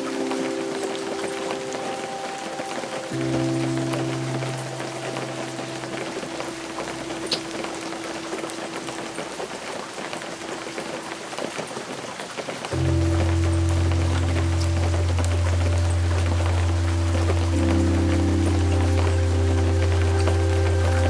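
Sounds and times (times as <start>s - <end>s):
ambient music held notes: 0.0s - 11.2s, 12.7s - 21.0s
steady rain falling: 0.0s - 21.0s.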